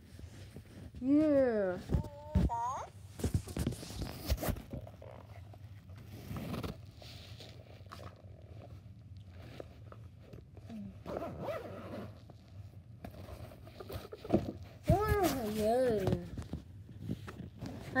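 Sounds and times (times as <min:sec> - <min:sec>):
soft scraping and rustling: 0:00.0 - 0:18.0.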